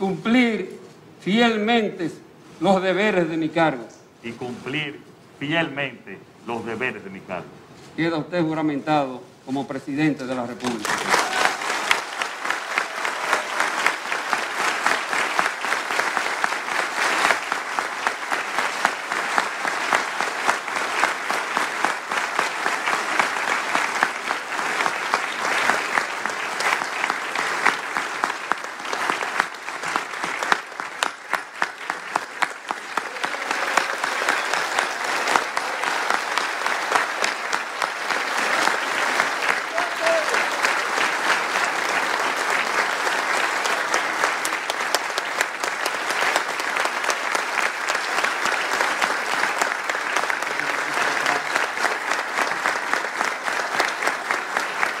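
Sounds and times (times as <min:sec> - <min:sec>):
audience applauding: 0:10.2 - 0:55.0.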